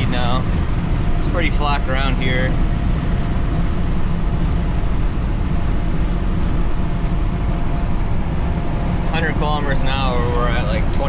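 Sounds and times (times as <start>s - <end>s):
diesel truck engine cruising: 0.0s - 11.0s
road noise: 0.0s - 11.0s.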